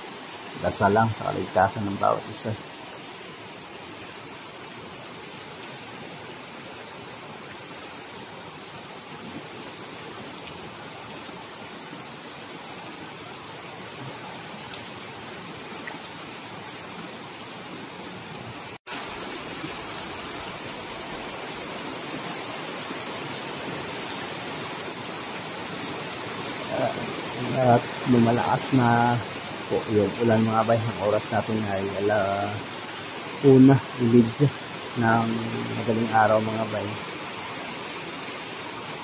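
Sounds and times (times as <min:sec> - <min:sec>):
heavy rain: 0:00.0 - 0:39.0
wind: 0:00.0 - 0:39.0.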